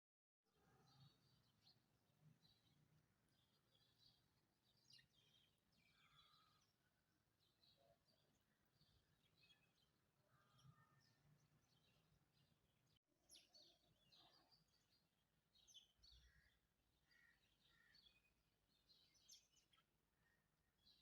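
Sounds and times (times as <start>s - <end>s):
faint small birds chirping: 0.5s - 21.0s.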